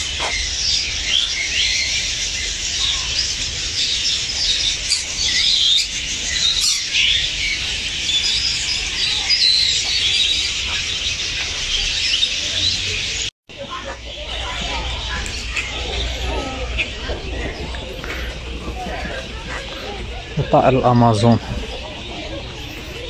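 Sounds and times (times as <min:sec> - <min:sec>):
parrots chirping and squawking: 0:00.0 - 0:23.0.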